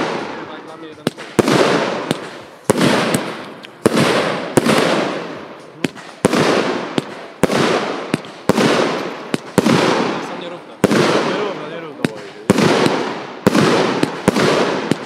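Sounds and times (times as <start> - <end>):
firework bangs with hiss: 0.0 - 15.0
firework launch cracks: 0.0 - 15.0.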